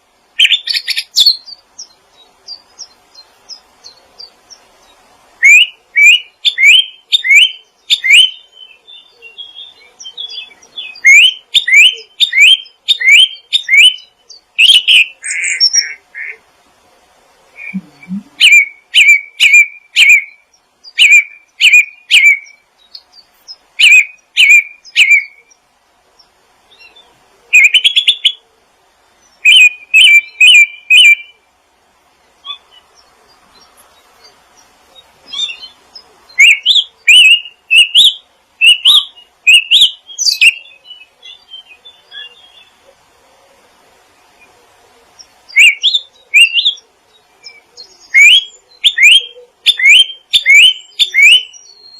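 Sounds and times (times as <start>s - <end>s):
songbird chirping whistled notes: 0.4s - 16.0s, 17.6s - 25.6s, 26.2s - 28.4s, 29.2s - 31.4s, 32.4s - 42.8s, 44.4s - 51.9s.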